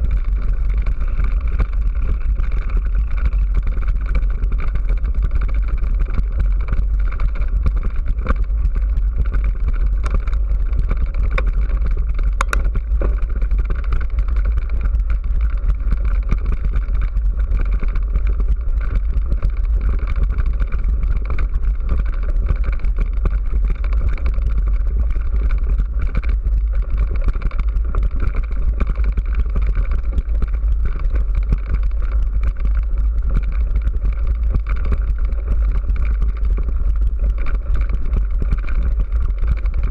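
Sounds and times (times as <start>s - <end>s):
bike tyres rattling on gravel: 0.0s - 39.9s.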